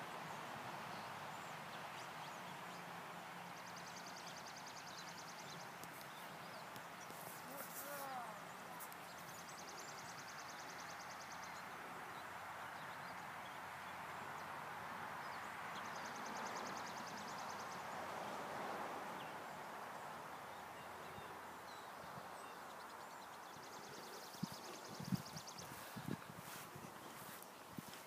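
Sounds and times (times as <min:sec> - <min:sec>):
steady rush of passing vehicle: 0:00.1 - 0:27.9.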